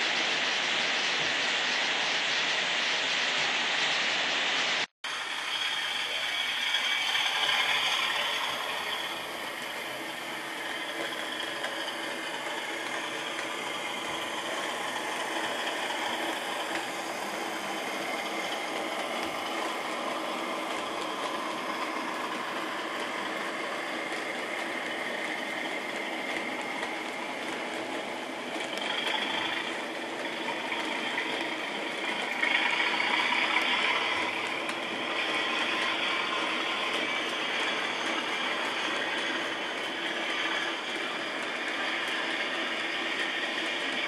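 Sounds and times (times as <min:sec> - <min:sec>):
model train running on track: 0:00.0 - 0:44.0.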